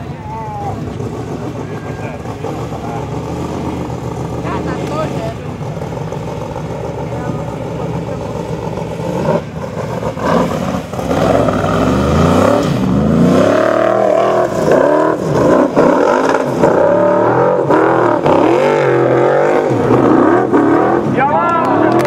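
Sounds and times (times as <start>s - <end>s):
buggy engine revving: 0.0s - 22.0s.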